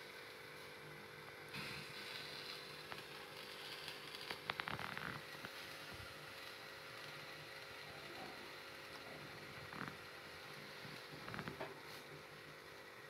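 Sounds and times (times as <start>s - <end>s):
gas burner flame hissing: 0.0s - 13.0s.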